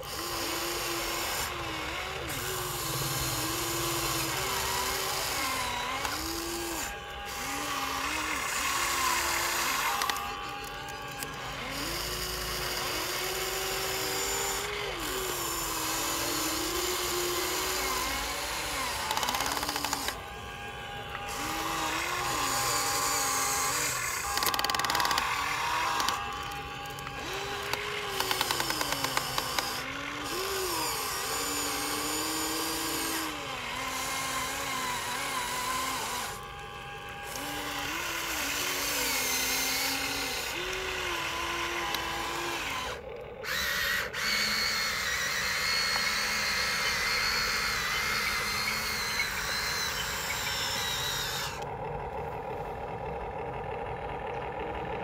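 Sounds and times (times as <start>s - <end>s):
toy electric motors whining: 0.0s - 55.0s.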